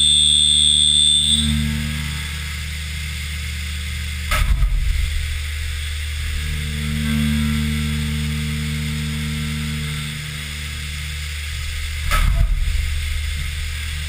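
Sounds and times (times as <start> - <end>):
milling machine spindle hum: 0.0 - 14.0.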